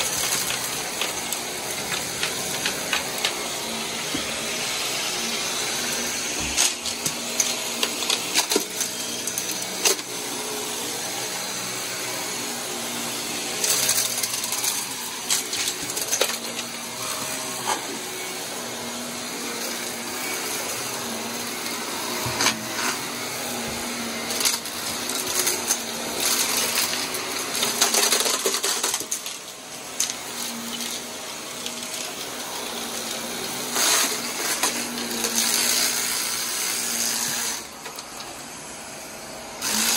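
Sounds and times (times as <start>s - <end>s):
vacuum cleaner motor humming: 0.0s - 39.9s.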